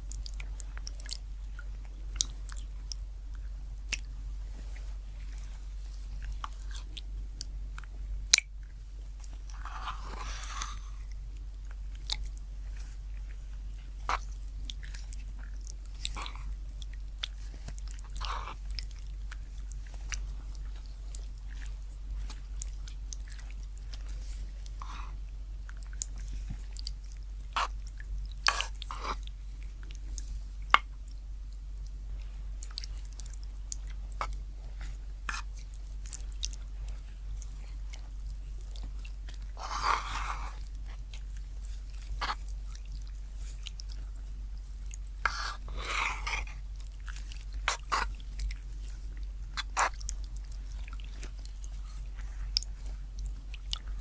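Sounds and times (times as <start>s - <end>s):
chewing with wet clicks: 0.0s - 54.0s
steady low hum: 0.0s - 54.0s.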